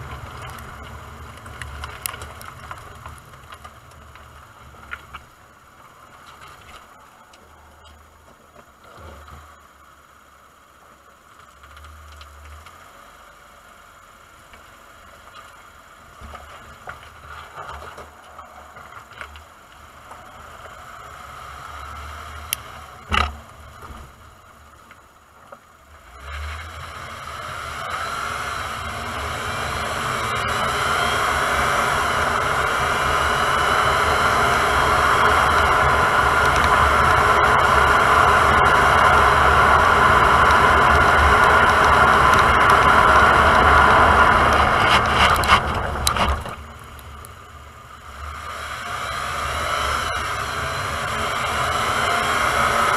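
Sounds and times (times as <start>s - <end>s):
road and tyre noise: 0.0s - 52.9s.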